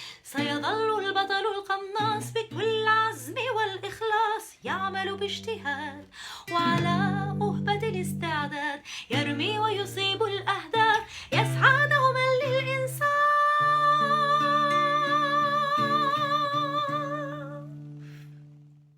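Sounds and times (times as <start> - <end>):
woman singing: 0.0 - 18.0.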